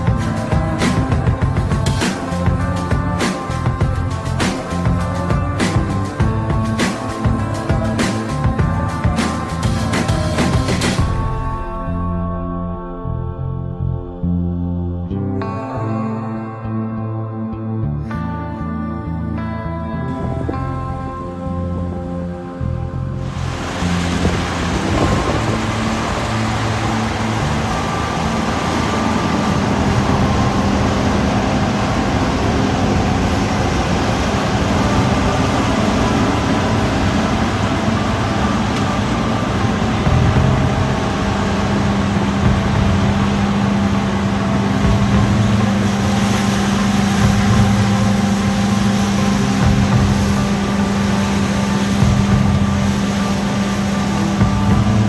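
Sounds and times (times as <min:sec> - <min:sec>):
combine harvester engine drone: 0:00.0 - 0:15.8, 0:20.0 - 0:55.0.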